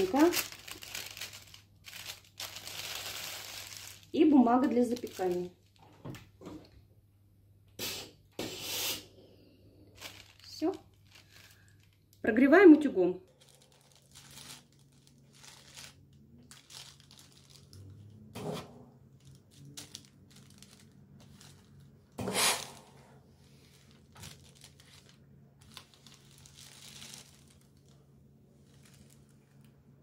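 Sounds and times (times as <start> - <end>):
parchment paper crinkling under iron: 0.0 - 6.0, 10.0 - 12.2, 13.2 - 22.2, 22.8 - 30.0.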